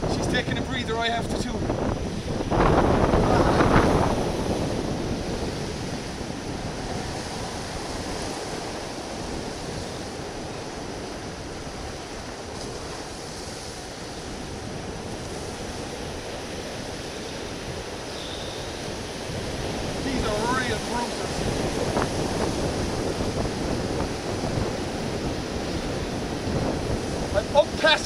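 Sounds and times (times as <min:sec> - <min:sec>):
surf washing against rocks: 0:00.0 - 0:28.0
wind buffeting microphone: 0:00.0 - 0:28.0.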